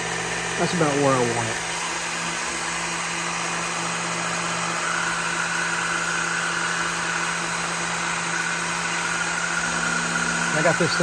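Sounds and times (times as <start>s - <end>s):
belt sharpener motor humming: 0.0s - 11.0s
high steady whine: 0.0s - 11.0s.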